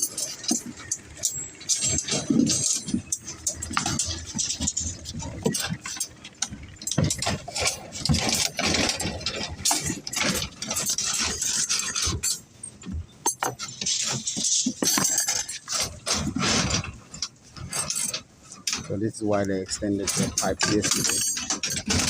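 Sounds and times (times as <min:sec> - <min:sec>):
knocks clanks and rattling: 0:00.0 - 0:22.0.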